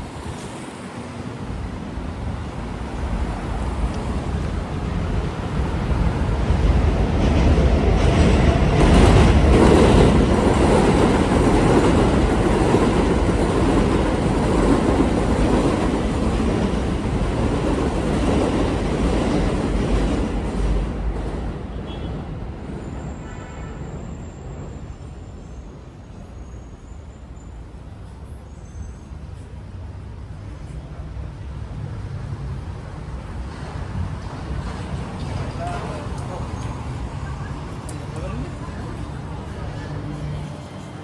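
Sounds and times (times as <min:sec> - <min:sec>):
elevated train passing: 0:00.0 - 0:41.0.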